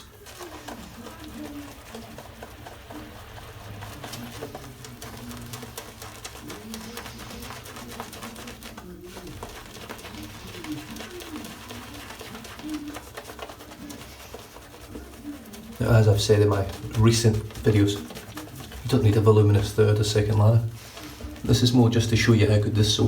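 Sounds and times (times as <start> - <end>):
shaving brush swirling lather: 0.0 - 23.0.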